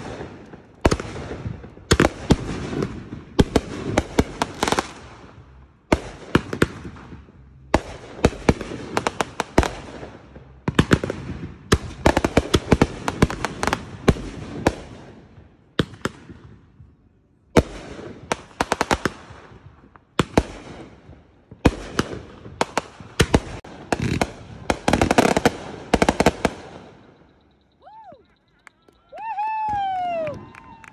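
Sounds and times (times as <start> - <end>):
fireworks crackling: 0.0 - 16.7, 17.5 - 30.9
fireworks banging: 0.0 - 27.7.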